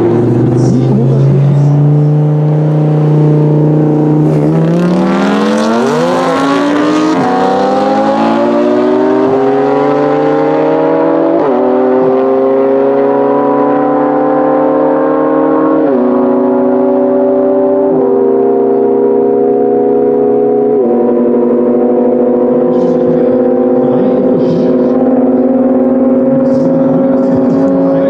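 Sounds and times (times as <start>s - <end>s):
cars accelerating with upshifts: 0.0s - 28.0s
racing car engines revving: 0.0s - 28.0s.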